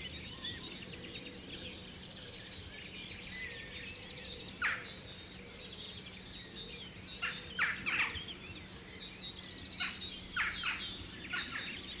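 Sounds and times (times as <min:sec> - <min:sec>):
many birds singing: 0:00.0 - 0:12.0.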